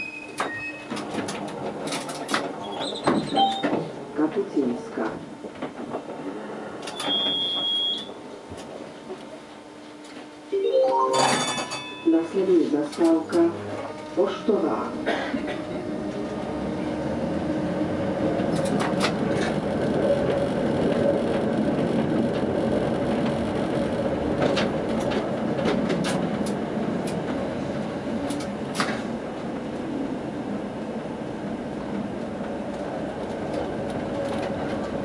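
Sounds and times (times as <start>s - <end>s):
tram rumbling on track: 0.0s - 10.5s, 11.2s - 35.0s.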